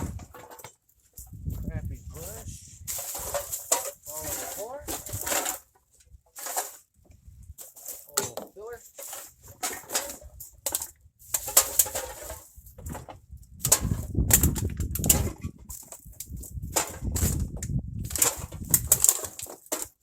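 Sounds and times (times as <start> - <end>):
trash rustling and clattering: 0.0 - 20.0.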